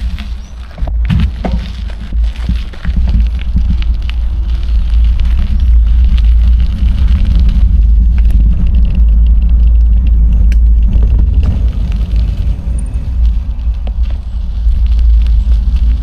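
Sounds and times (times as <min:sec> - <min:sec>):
bike clicks and rattles: 0:00.0 - 0:16.0
wind and road rumble: 0:00.0 - 0:16.0.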